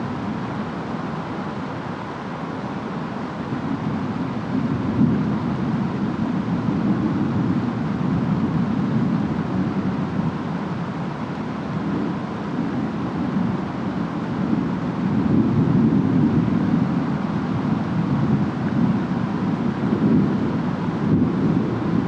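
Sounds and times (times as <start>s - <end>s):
rain: 0.0s - 22.0s
wind: 0.0s - 22.0s.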